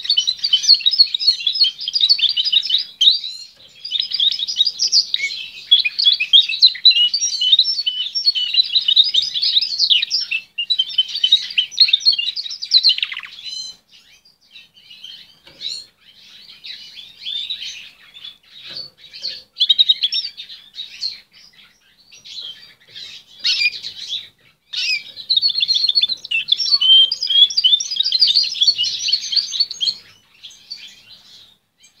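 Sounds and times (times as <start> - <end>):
canary singing: 0.0 - 32.0.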